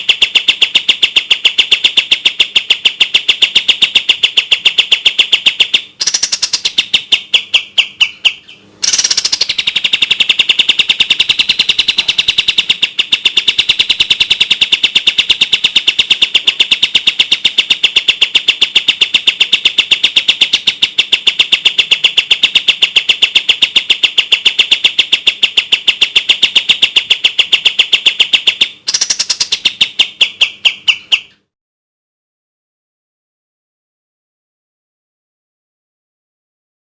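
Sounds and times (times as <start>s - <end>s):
songbird rapid chipping song: 0.0s - 31.5s.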